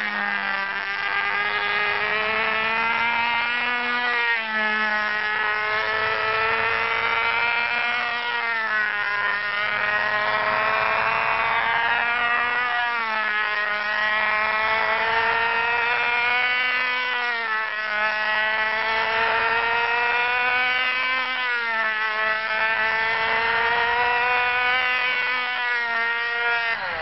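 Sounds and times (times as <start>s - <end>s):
model plane engine buzzing: 0.0s - 27.0s.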